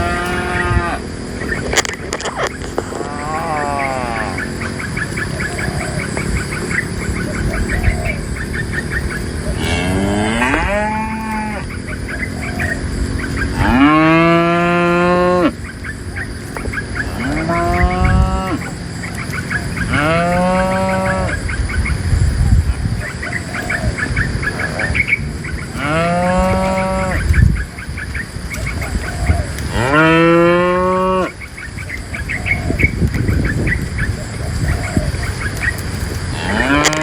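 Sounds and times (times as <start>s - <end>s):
cows mooing: 0.0s - 22.3s, 23.0s - 28.2s, 28.9s - 31.4s, 34.8s - 37.0s.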